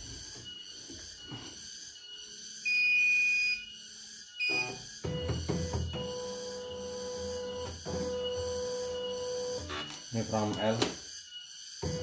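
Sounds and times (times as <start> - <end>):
embroidery machine buzzer beeps: 0.1 - 12.0.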